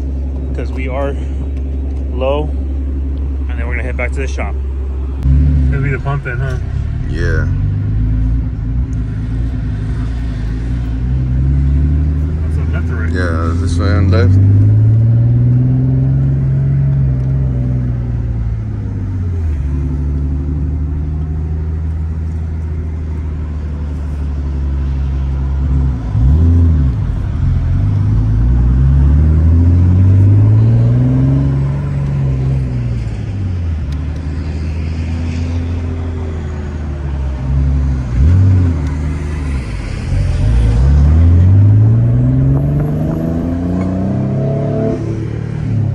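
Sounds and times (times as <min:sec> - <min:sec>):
car engine revving under load: 0:00.0 - 0:45.9.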